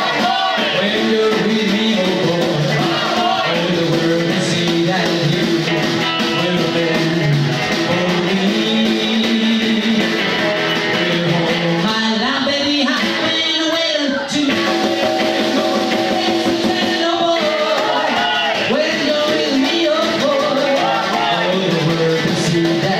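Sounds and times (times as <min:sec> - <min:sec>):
drums: 0:00.0 - 0:22.9
electric guitar: 0:00.0 - 0:22.9
rockabilly band playing: 0:00.0 - 0:22.9.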